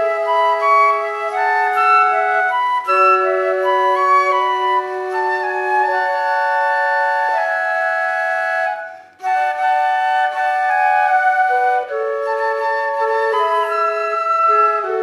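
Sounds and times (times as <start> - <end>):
flute trio playing held notes: 0.0 - 15.0.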